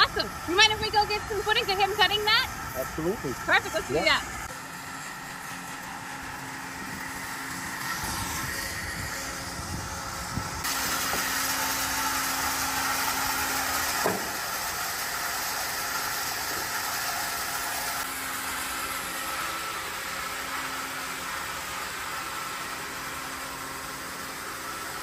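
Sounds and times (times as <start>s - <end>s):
bandsaw cutting metal: 0.0s - 25.0s
forklift running: 0.0s - 25.0s.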